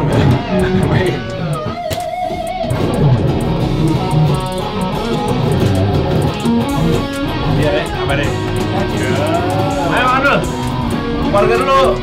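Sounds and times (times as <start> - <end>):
electric guitar music with bass: 0.0 - 12.0.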